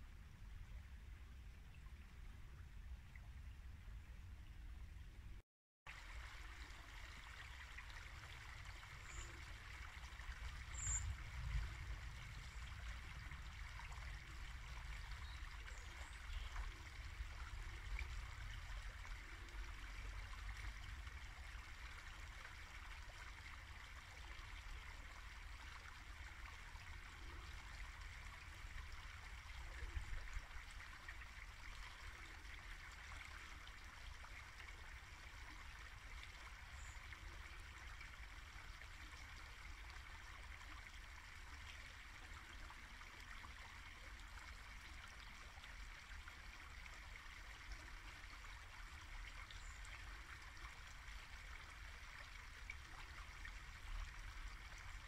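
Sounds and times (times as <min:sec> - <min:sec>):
brook babbling over shallows: 0:00.0 - 0:55.0.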